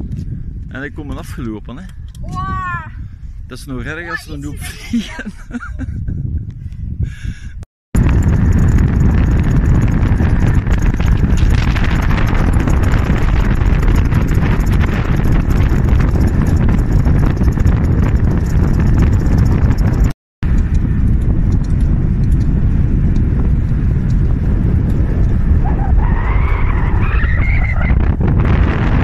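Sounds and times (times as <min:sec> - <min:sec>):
wind buffeting on microphone: 0:00.0 - 0:29.0.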